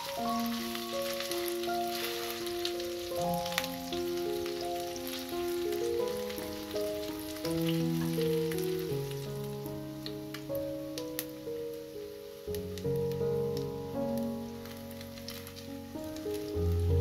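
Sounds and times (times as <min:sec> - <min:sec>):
hot oil sizzling and spattering: 0:00.0 - 0:17.0
slow background music: 0:00.0 - 0:17.0.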